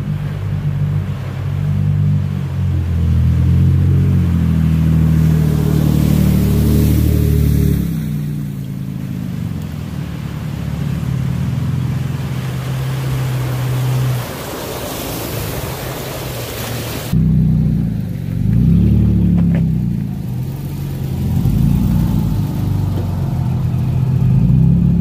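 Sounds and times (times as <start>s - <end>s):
truck engines under throttle: 0.0s - 25.0s
water splashing around tyres: 0.0s - 25.0s.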